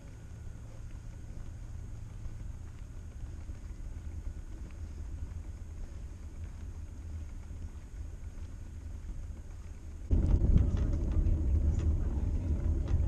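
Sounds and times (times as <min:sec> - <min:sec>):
bicycle rolling on paved path: 0:00.0 - 0:13.0
wind buffeting microphone: 0:01.8 - 0:13.0.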